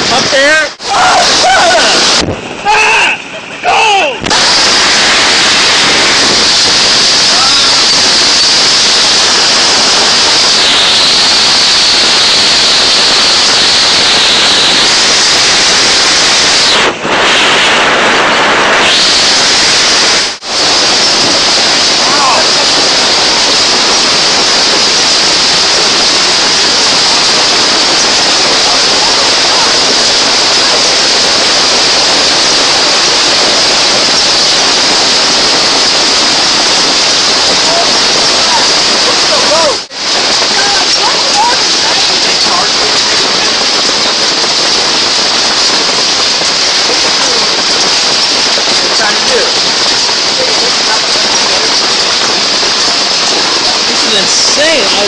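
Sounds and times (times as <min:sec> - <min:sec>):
hail clattering: 0:04.3 - 0:17.0, 0:19.3 - 0:55.0.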